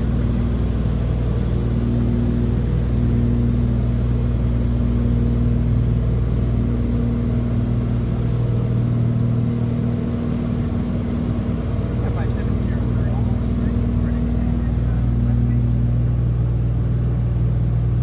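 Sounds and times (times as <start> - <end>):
airplane cabin engine hum: 0.0 - 18.0.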